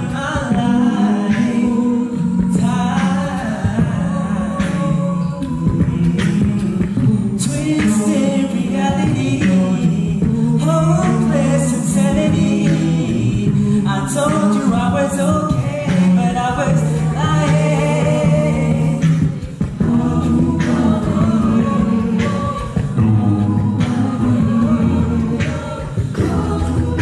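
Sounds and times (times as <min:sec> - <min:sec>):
a cappella group singing: 0:00.0 - 0:27.0
vocal percussion hits: 0:00.0 - 0:27.0.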